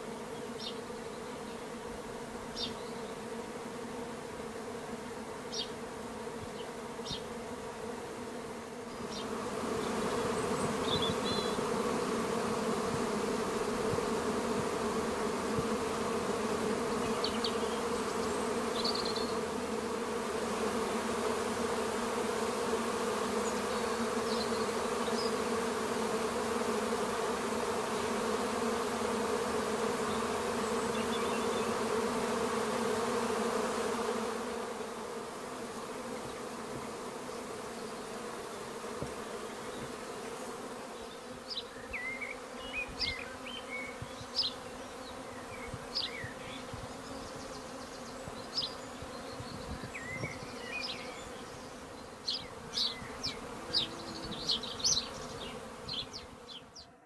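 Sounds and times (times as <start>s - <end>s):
honey bee swarm buzzing: 0.0s - 57.0s.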